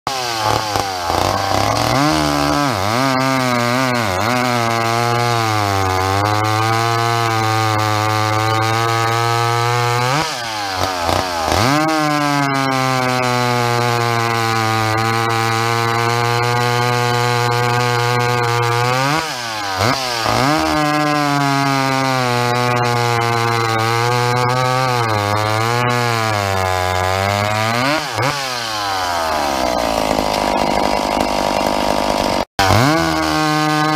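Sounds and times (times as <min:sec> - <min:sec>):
chainsaw cutting log: 0:00.1 - 0:33.9.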